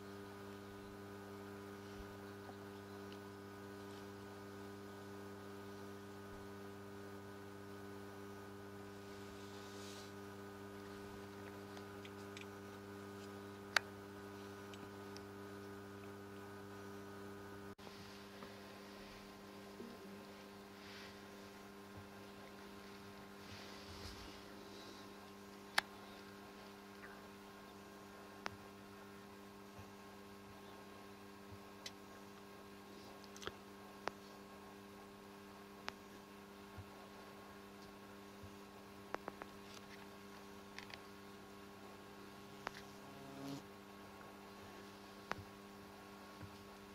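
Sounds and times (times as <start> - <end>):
faint low hum: 0.0 - 46.9.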